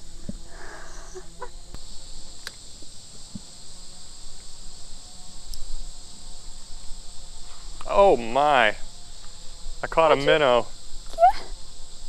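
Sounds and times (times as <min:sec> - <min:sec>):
insect chorus buzzing: 0:00.0 - 0:12.0.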